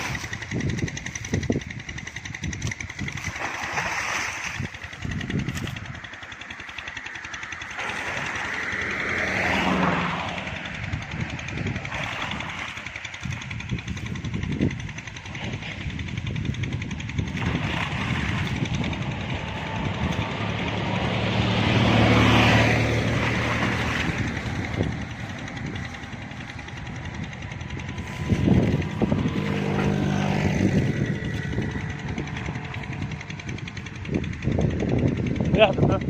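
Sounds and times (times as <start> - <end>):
engine running with low hum: 0.0 - 36.0.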